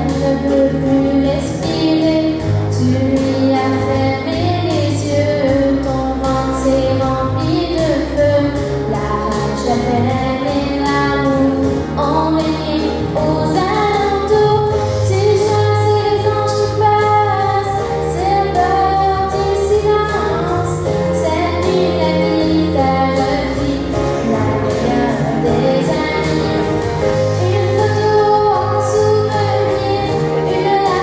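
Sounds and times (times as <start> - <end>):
girl singing into microphone: 0.0 - 31.0
instrumental accompaniment: 0.0 - 31.0.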